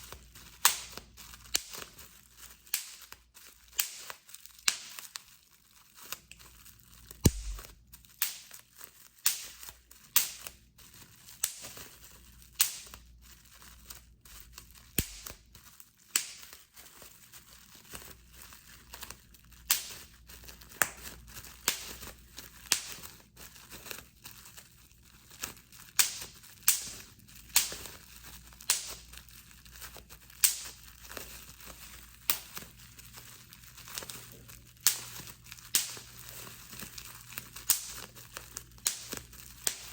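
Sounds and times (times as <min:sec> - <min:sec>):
bubble wrap popping: 0:00.0 - 0:39.9
plastic crinkling: 0:00.0 - 0:39.9.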